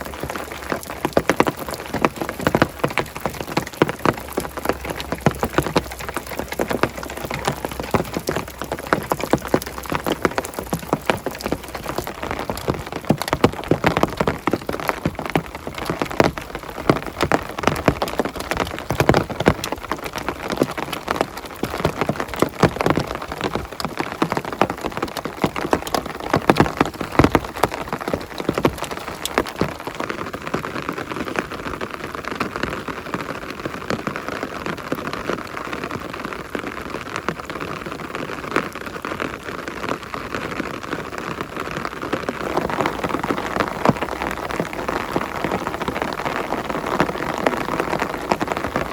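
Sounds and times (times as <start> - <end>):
heavy rain on hard surface: 0.0 - 48.9.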